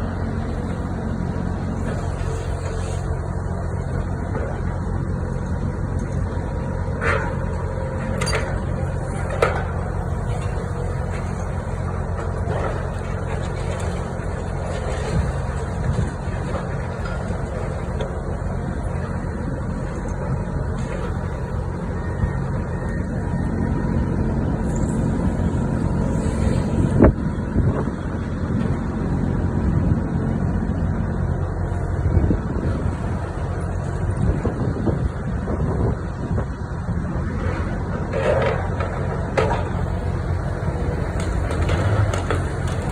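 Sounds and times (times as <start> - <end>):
diesel machine engine running: 0.0 - 42.9.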